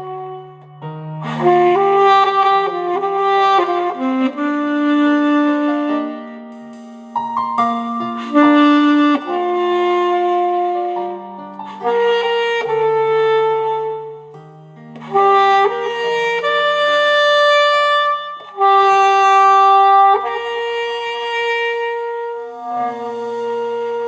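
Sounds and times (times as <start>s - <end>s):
alto saxophone melody: 0.0s - 24.0s.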